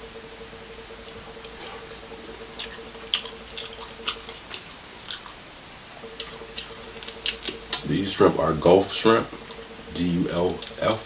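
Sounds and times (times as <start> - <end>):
close chewing: 1.0 - 11.0.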